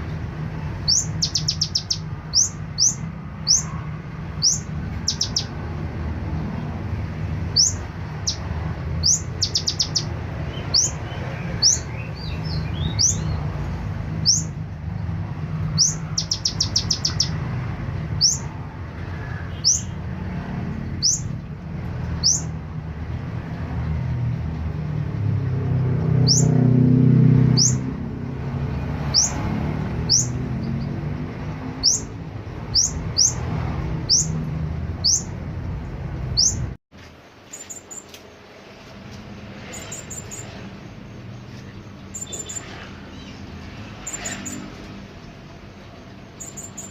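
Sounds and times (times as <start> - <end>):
bird chirping and trilling: 0.6 - 5.8, 7.4 - 20.2, 20.8 - 22.8, 26.1 - 28.0, 28.8 - 36.8, 37.5 - 38.1, 39.6 - 46.9.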